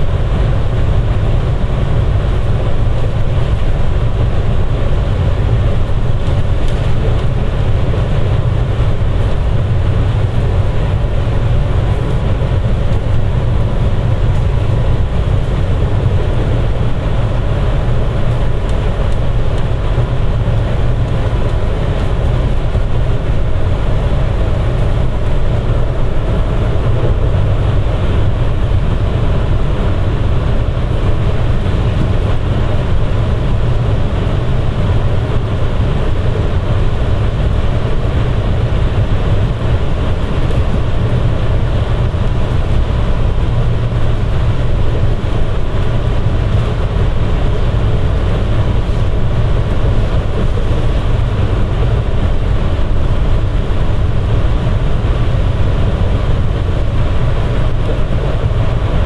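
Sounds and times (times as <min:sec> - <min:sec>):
train rumbling through tunnel: 0:00.0 - 0:59.0.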